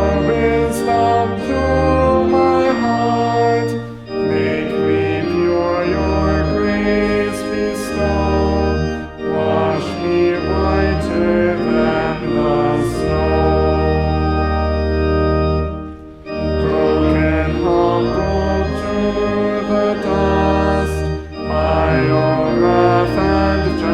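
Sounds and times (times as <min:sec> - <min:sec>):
voices singing: 0:00.0 - 0:15.0, 0:16.4 - 0:23.9
church organ chords: 0:00.0 - 0:23.9.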